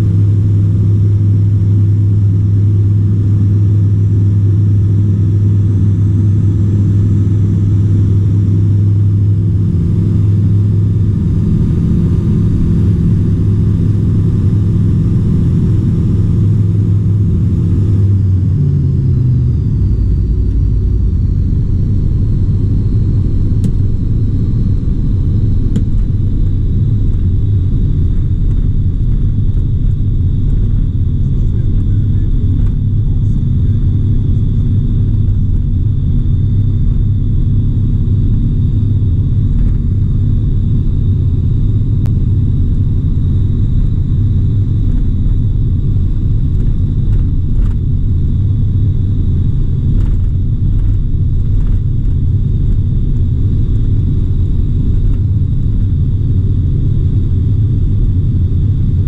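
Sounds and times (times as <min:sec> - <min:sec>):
propeller aircraft engine: 0:00.0 - 0:59.0.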